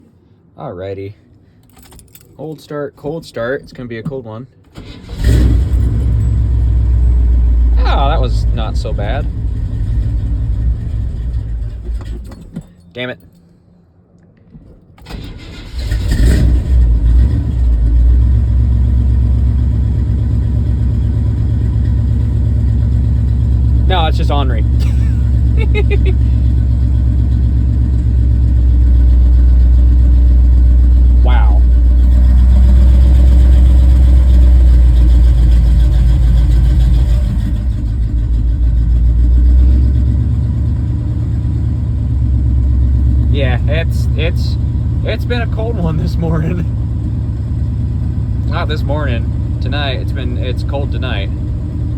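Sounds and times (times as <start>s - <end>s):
pickup engine starting and idling: 4.7s - 12.6s, 15.0s - 51.9s.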